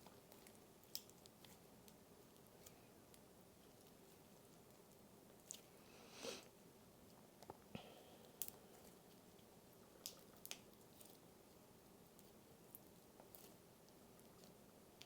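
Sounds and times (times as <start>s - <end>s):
faint clicks and crackles: 0.0s - 5.8s, 6.4s - 15.0s.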